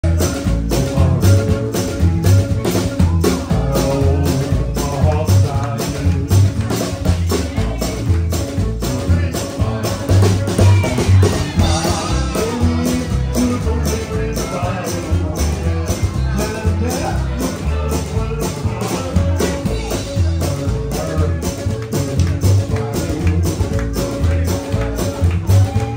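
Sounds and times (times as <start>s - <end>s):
drums keeping steady beat: 0.0s - 25.9s
live band playing fast number: 0.0s - 25.9s.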